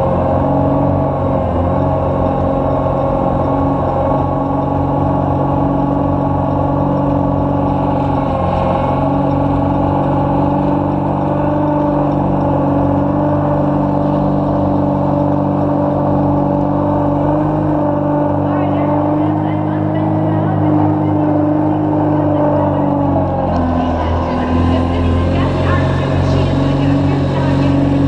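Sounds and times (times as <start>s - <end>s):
ice resurfacer engine running: 0.0s - 28.0s.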